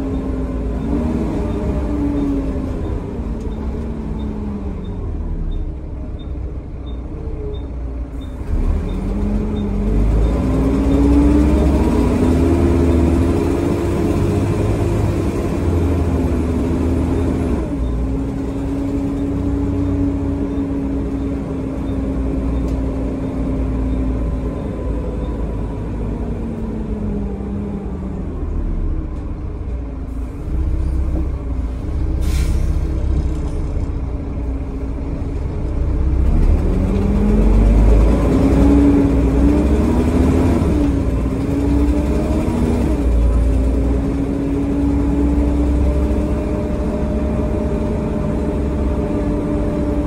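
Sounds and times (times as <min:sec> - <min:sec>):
bus diesel engine: 0:00.0 - 0:50.0.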